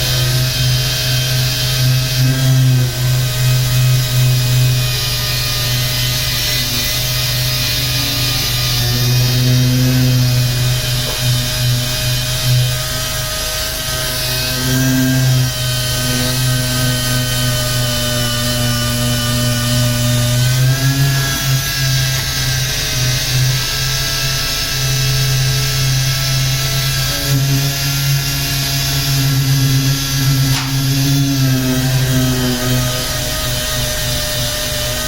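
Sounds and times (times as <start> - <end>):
power sander whining: 0.0 - 35.0.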